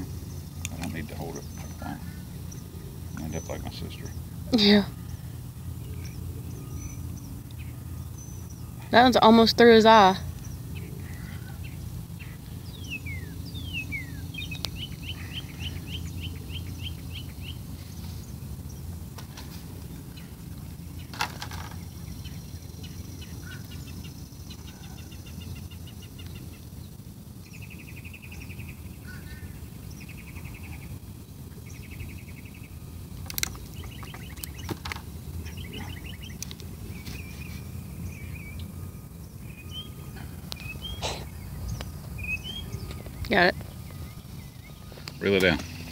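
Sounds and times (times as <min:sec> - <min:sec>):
birds chirping and trilling: 0:00.0 - 0:45.9
low outdoor rumble: 0:00.0 - 0:45.9.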